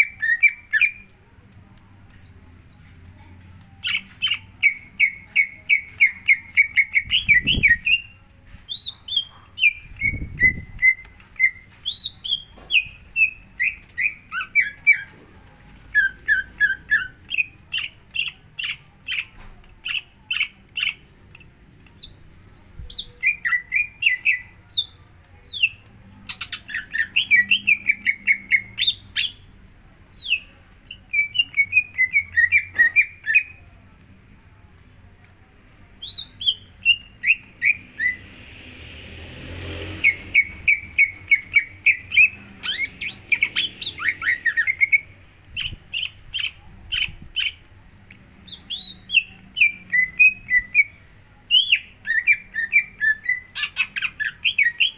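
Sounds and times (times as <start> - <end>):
bird chattering and whistling: 0.0 - 1.0, 2.1 - 8.1, 8.7 - 15.1, 15.9 - 29.4, 30.1 - 33.6, 36.0 - 38.3, 40.0 - 47.6, 48.4 - 54.9.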